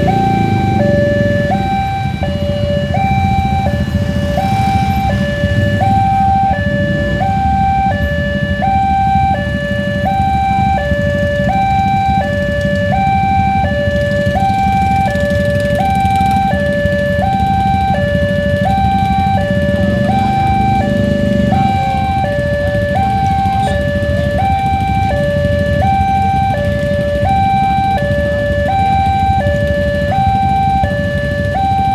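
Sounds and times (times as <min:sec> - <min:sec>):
level crossing two-tone alarm: 0:00.0 - 0:31.9
traffic idling: 0:00.0 - 0:31.9.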